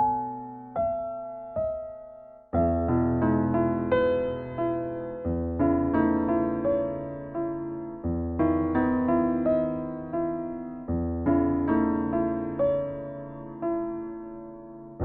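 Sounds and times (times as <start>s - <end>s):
gentle electric piano tune: 0.0s - 15.0s.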